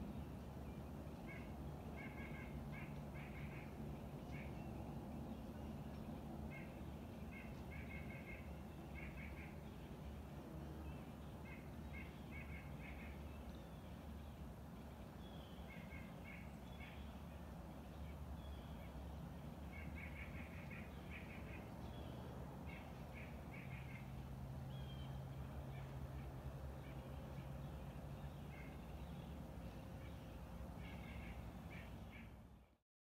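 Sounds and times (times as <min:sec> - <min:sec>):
birds calling: 0:01.1 - 0:04.7, 0:05.3 - 0:10.1, 0:11.0 - 0:14.3, 0:15.2 - 0:32.7.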